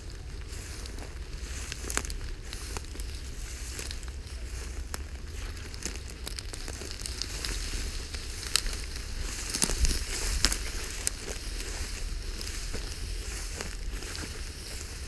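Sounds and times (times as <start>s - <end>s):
dry grass rustling underfoot: 0.0s - 15.0s.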